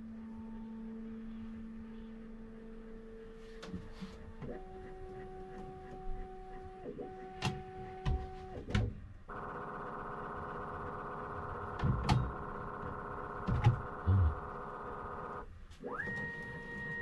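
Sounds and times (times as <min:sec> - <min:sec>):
printer motors humming: 0:00.5 - 0:17.0.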